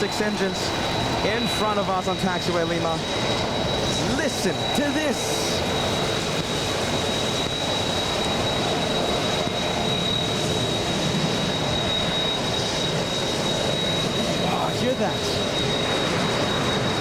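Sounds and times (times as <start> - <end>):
jet engines rushing with whine: 0.0 - 17.0.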